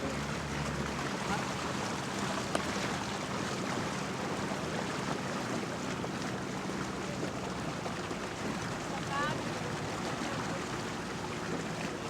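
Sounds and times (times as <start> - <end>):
motorboat engine hum: 0.0 - 12.0.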